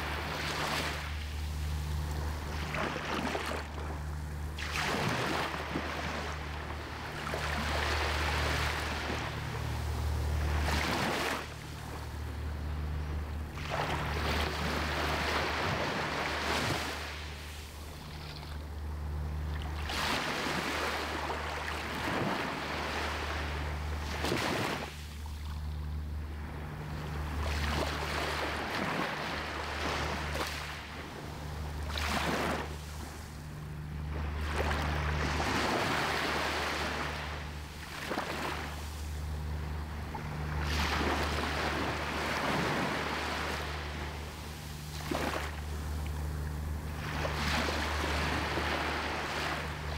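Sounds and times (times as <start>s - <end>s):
waves washing on sandy beach: 0.0s - 18.4s, 19.5s - 25.3s, 26.2s - 49.9s
steady low rumble: 0.0s - 49.9s.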